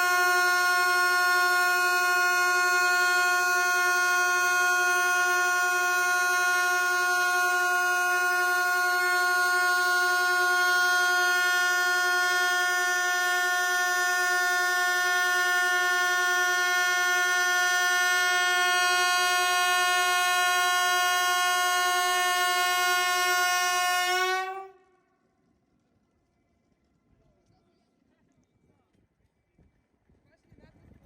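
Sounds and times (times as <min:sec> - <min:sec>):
electric train horn blast: 0:00.0 - 0:25.1.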